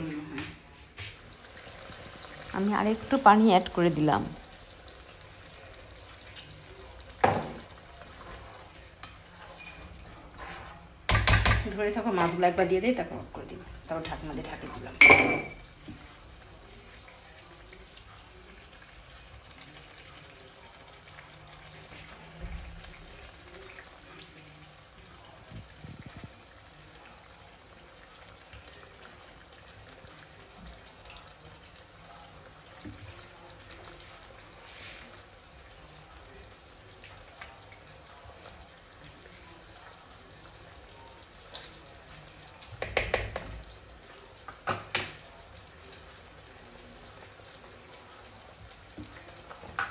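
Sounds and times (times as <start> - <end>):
curry simmering in a pan: 0.7 - 49.9.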